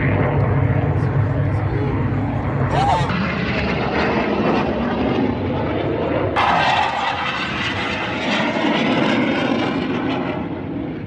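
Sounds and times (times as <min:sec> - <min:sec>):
aircraft engine roar: 0:00.0 - 0:11.0.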